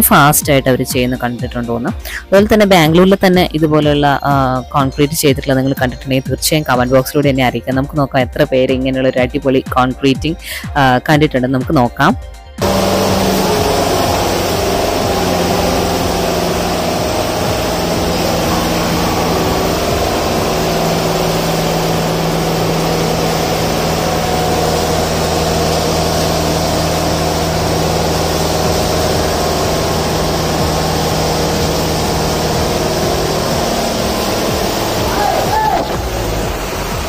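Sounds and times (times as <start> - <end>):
diesel engine running: 0.0 - 9.7, 12.6 - 37.0.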